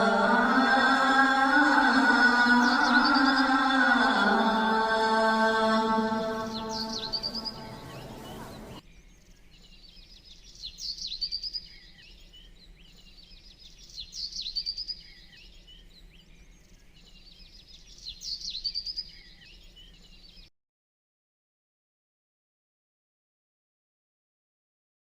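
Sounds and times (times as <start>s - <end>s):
bird song with trill: 0.0s - 20.5s.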